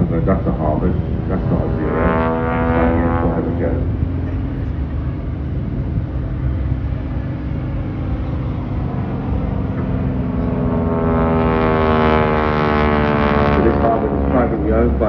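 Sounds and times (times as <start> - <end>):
propeller aircraft engine buzzing: 0.0 - 15.0.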